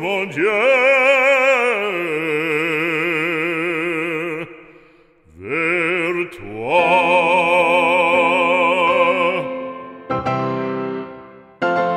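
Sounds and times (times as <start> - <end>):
operatic solo singing: 0.0 - 10.1.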